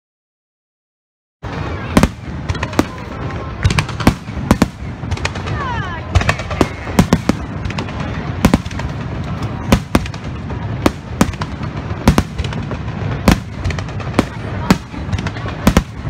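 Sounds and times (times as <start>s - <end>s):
firework bangs: 1.4s - 16.0s
continuous low rumble: 1.5s - 16.0s.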